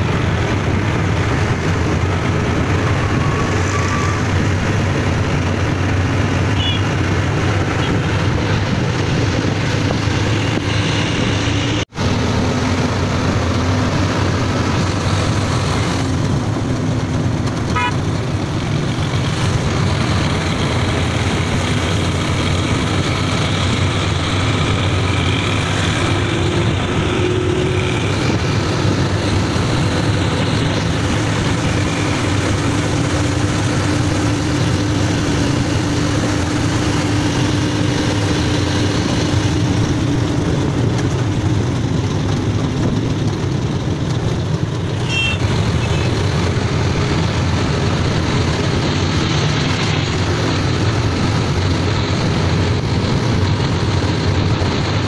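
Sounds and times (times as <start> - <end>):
auto-rickshaw engine running: 0.0 - 55.0
road noise: 0.0 - 55.0
wind: 0.0 - 55.0.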